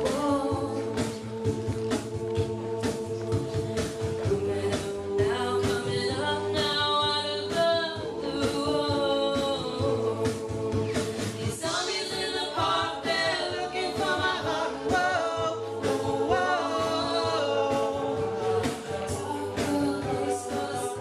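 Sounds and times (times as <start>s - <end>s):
steady beat: 0.0s - 21.0s
voices singing in harmony: 0.0s - 21.0s.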